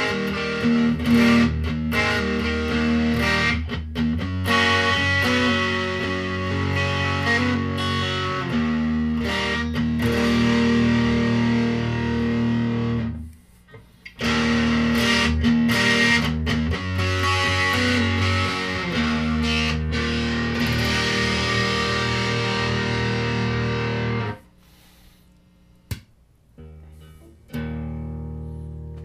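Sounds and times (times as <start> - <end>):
distorted electric guitar chords: 0.0 - 13.3, 14.2 - 24.4, 26.6 - 29.0.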